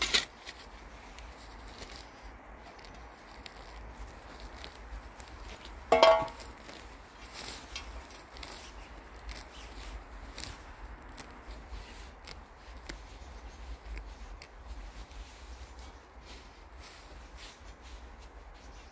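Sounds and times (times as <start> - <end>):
dry grass rustling and tearing: 0.0 - 18.9.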